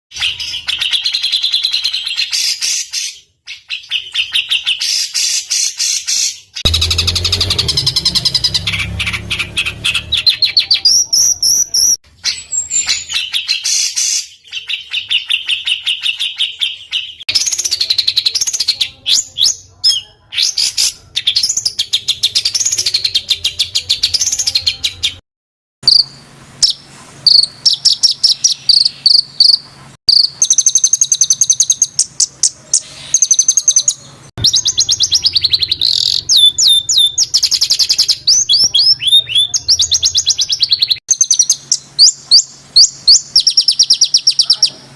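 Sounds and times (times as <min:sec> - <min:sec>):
songbirds singing harsh trills: 0:00.1 - 0:25.2, 0:25.8 - 0:44.9.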